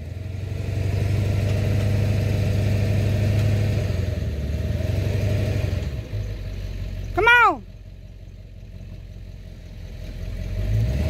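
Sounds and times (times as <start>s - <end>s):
vehicle engine running at low speed: 0.0s - 11.0s.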